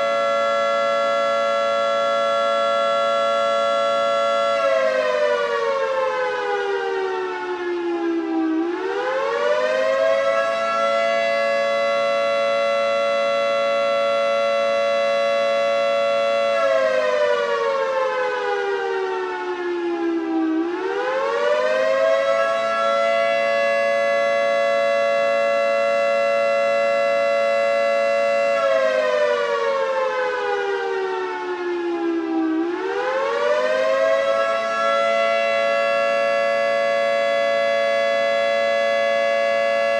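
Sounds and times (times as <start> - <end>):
three-tone warning siren: 0.0 - 39.9.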